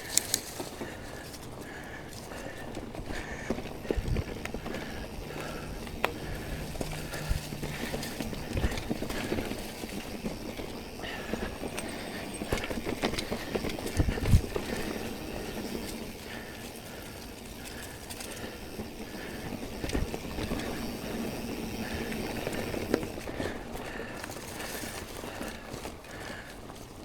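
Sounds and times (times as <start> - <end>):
bike rattling over bumps: 0.0 - 27.0
tyres rolling on dirt: 0.0 - 27.0.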